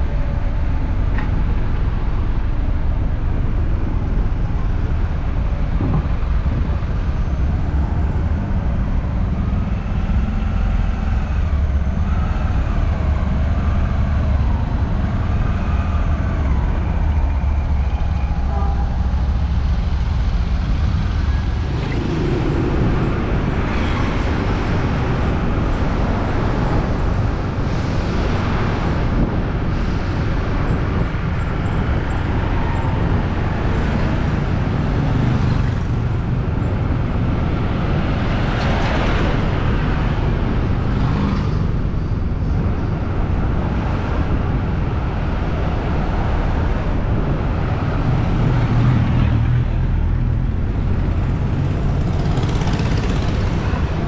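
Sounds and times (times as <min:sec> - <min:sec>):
traffic engine rumble and road noise: 0:00.0 - 0:54.0
vehicles passing by: 0:00.0 - 0:54.0.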